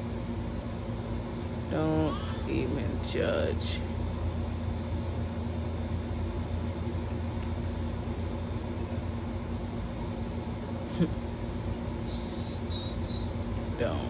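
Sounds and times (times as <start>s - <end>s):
low outdoor hum: 0.0s - 14.0s.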